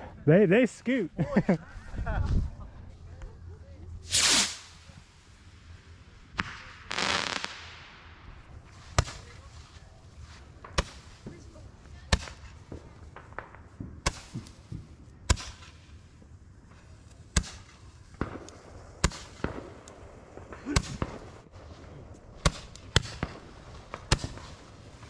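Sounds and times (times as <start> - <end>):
fireworks bangs: 4.0 - 25.0.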